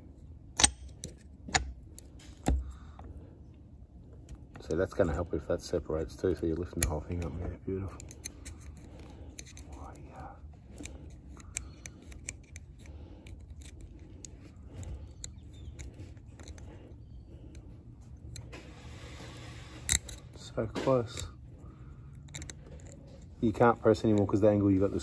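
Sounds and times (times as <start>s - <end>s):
small metallic clicks and scrapes: 0.5s - 3.1s, 6.0s - 25.0s.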